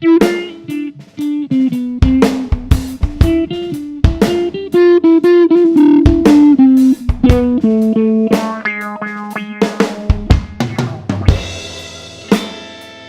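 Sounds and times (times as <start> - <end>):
drum kit playing a beat: 0.0 - 13.0
electric guitar with wah filter: 0.0 - 13.0.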